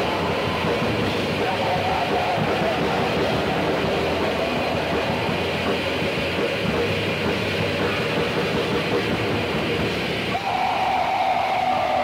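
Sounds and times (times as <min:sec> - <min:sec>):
distorted black metal music: 0:00.0 - 0:10.7.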